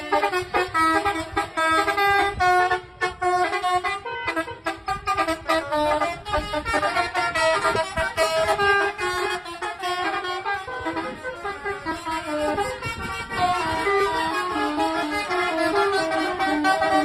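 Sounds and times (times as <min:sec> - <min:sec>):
multi-tone bus horns: 0:00.0 - 0:17.0.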